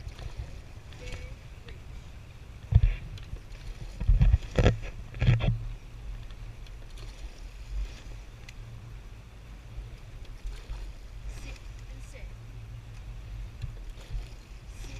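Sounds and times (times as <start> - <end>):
low steady rumble: 0.0 - 14.9
water rushing past rowing boat: 0.0 - 14.9.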